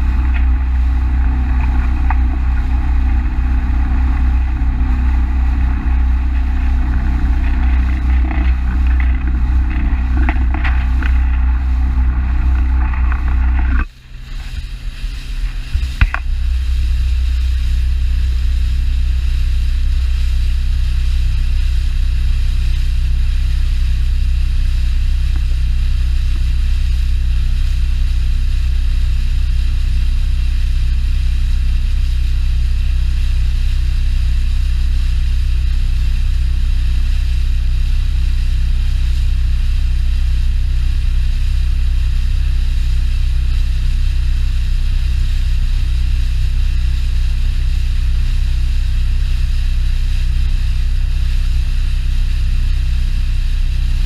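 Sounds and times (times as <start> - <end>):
outboard engine droning: 0.0 - 54.0.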